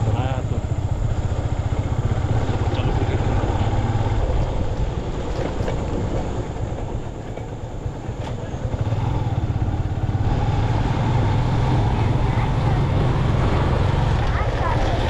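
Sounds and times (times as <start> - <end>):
motorcycle engine riding: 0.0 - 15.0.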